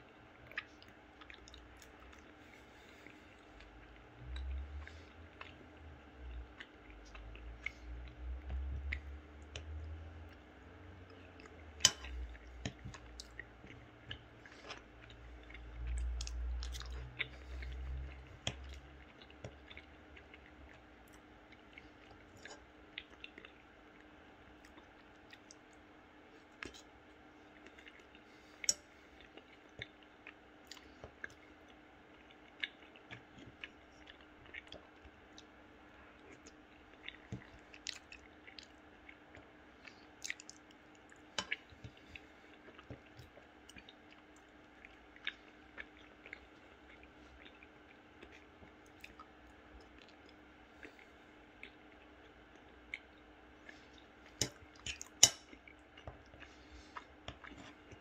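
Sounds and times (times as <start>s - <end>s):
faint steady hum: 0.0s - 58.0s
person chewing pasta: 0.0s - 58.0s.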